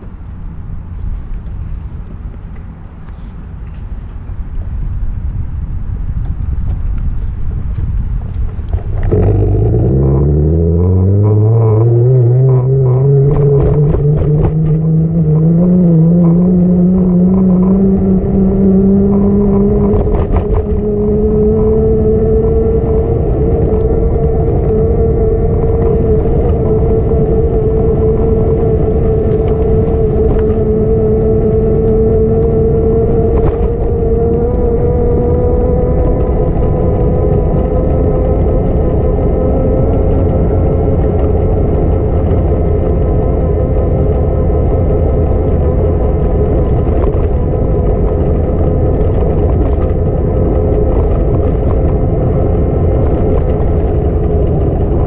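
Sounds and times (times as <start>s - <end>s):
low rumble: 0.0s - 55.0s
vehicle motor whine: 0.0s - 55.0s.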